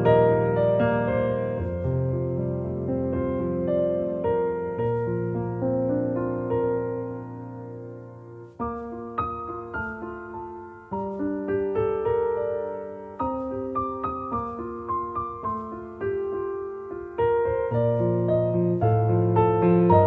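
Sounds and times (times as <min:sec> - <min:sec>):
soft slow piano music: 0:00.0 - 0:20.0.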